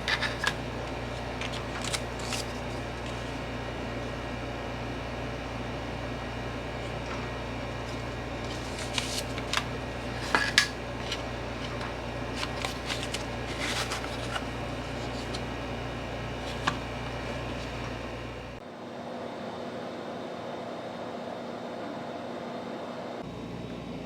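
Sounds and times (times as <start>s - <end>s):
steady low hum: 0.0s - 20.4s, 21.9s - 24.0s.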